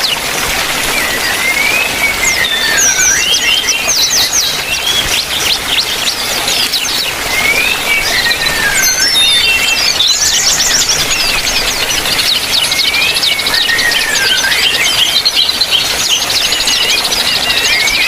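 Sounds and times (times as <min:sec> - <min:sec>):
birds whistling and chirping: 0:00.0 - 0:18.0.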